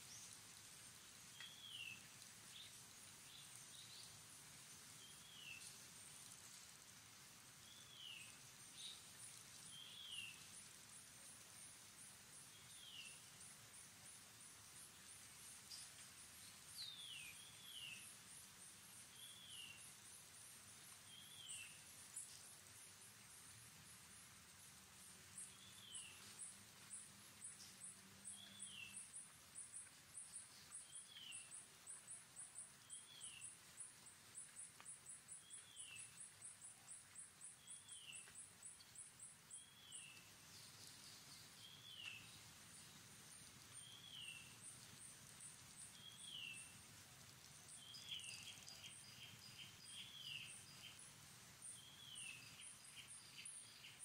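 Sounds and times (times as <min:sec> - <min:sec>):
high insect chirping: 0:07.6 - 0:54.0.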